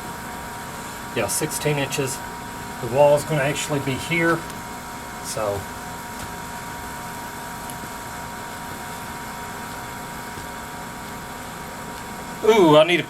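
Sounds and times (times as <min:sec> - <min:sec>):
faint high hum: 0:00.0 - 0:13.0.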